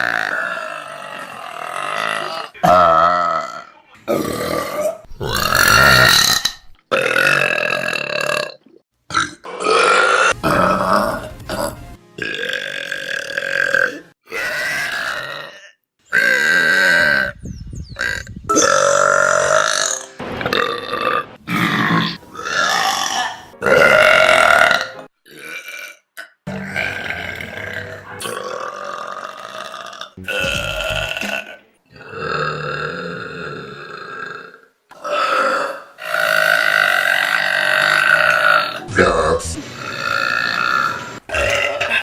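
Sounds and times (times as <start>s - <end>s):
people burping: 0.0s - 17.4s, 18.0s - 42.0s.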